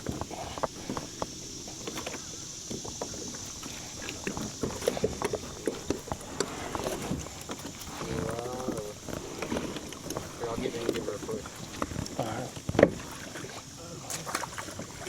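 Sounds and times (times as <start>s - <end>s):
kayak hull knocking on log: 0.0s - 13.4s
light splashing: 0.0s - 15.0s
steady high hiss: 0.0s - 15.0s.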